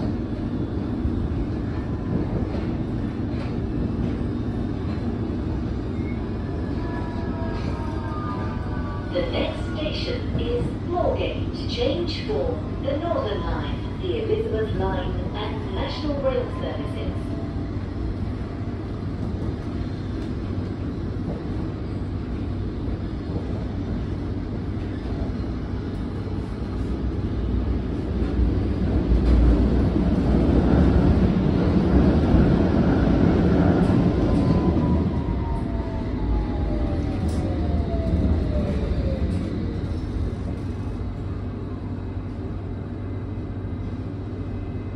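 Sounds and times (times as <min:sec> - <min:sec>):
train running in tunnel: 0:00.0 - 0:44.9.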